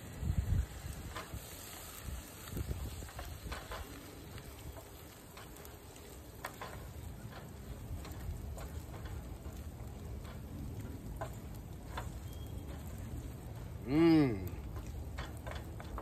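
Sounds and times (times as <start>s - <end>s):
rice sizzling in a frying pan: 0.0s - 16.0s.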